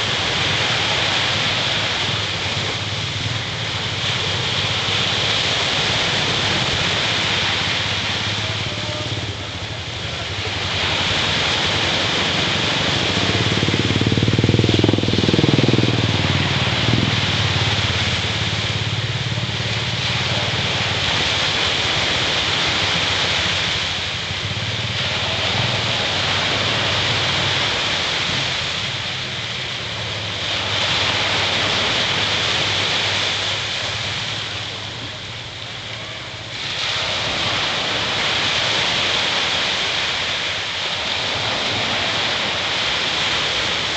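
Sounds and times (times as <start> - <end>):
engine passing by: 0.0 - 39.0
surf breaking on beach: 0.0 - 43.9.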